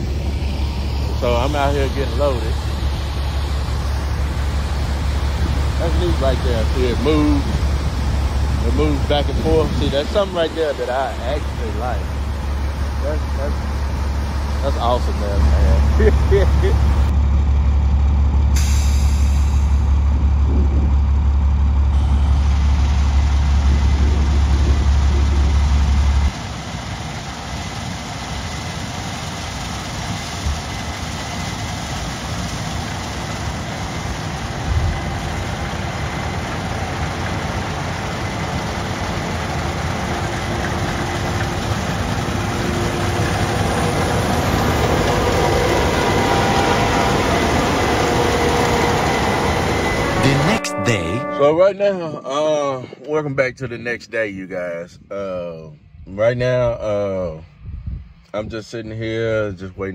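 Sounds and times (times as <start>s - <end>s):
deep machinery rumble: 0.0s - 50.6s, 54.8s - 59.9s
combine harvester running: 0.0s - 51.5s.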